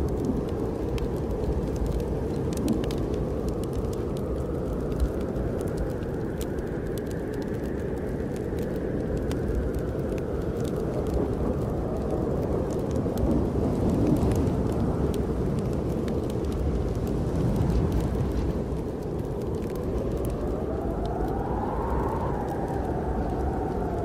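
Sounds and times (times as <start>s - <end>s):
snowstorm wind gusting: 0.0s - 24.0s
wood fire crackling: 0.0s - 24.0s.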